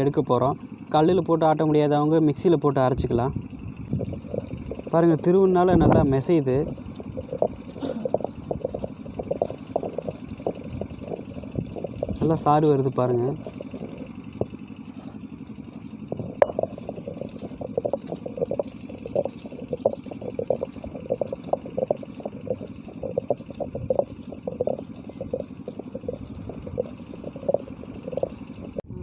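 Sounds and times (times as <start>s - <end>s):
stone grinder humming: 3.9s - 28.8s.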